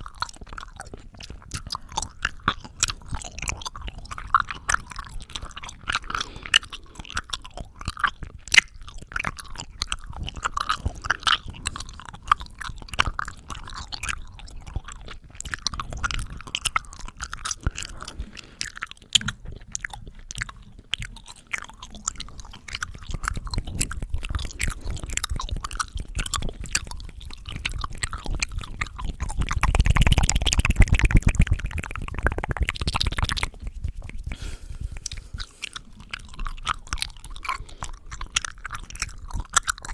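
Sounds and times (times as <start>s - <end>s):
wet mouth clicks and smacks: 0.0s - 39.9s.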